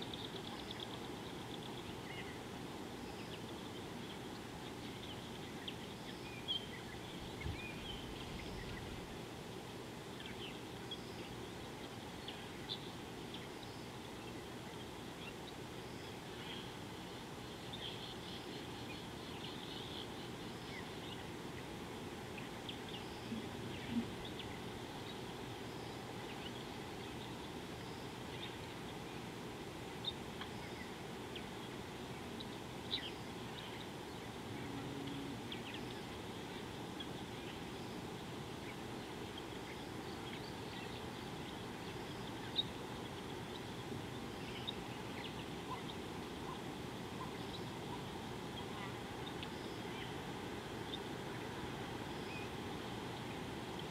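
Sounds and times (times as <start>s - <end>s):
outdoor ambience hiss: 0.0s - 53.9s
small birds chirping: 0.0s - 53.9s.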